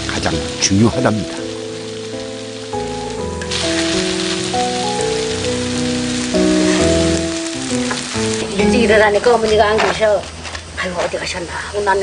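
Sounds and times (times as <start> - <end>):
slow instrumental melody: 0.0 - 10.8
dough cakes sizzling in oil: 0.0 - 12.0.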